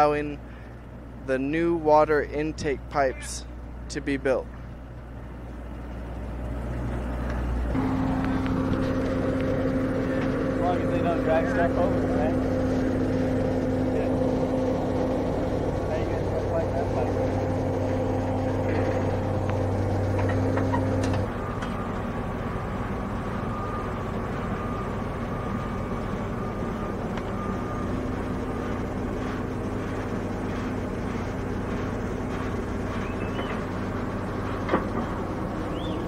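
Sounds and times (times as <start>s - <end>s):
heavy equipment diesel engine: 0.0s - 36.0s.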